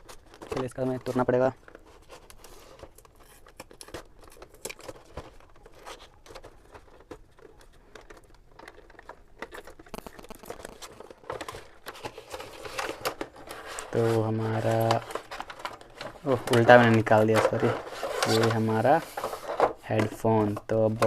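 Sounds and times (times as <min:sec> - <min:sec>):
packaging crinkling and tearing: 0:00.0 - 0:21.0.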